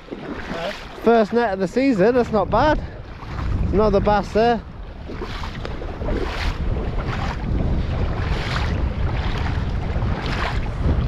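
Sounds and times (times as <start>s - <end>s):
shallow sea water washing: 0.0s - 11.0s
wind buffeting microphone: 0.0s - 11.0s.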